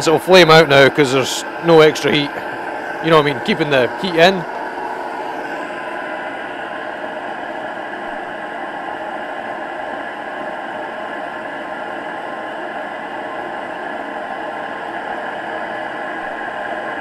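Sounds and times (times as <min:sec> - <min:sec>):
faint steady tones: 0:00.0 - 0:15.3
heater fan and burner whirring: 0:00.0 - 0:17.0.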